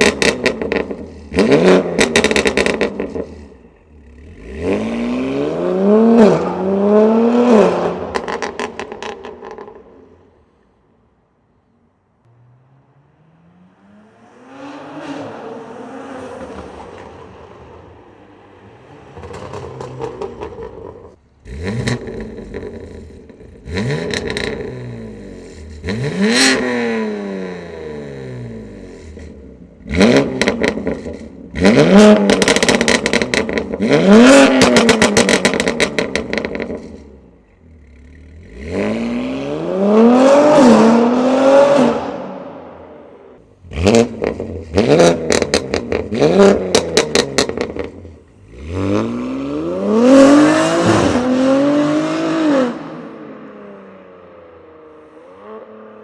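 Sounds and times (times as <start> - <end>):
car engine revving: 0.0 - 10.0, 12.2 - 55.8.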